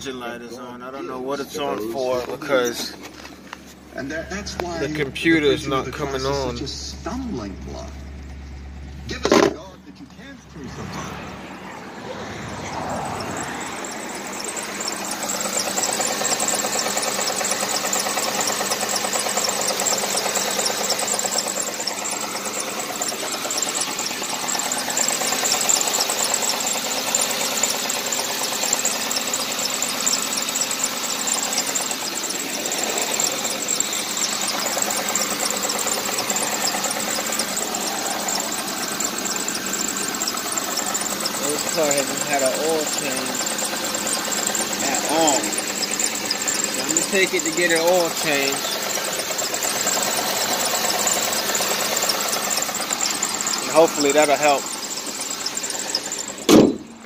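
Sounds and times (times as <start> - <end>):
car engine idling with ticking: 0.0 - 57.0.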